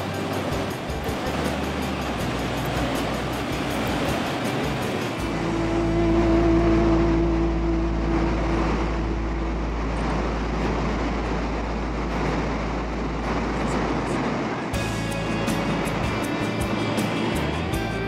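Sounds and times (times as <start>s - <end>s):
steady hum: 0.0s - 18.0s
waterfall roaring: 0.0s - 18.0s.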